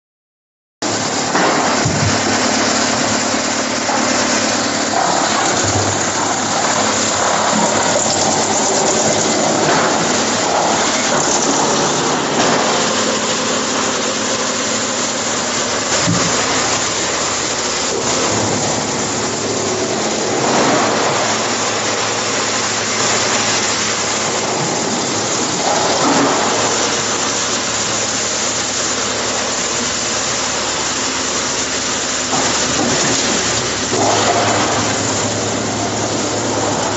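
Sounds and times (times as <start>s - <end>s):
wood chipper chipping logs: 0.8s - 36.9s.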